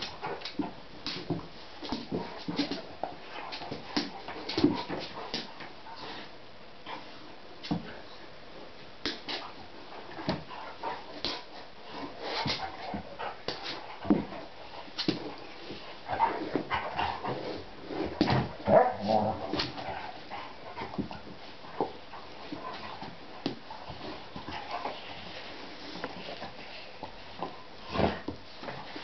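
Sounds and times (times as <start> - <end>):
dogs scuffling: 0.0 - 6.3, 8.8 - 29.0.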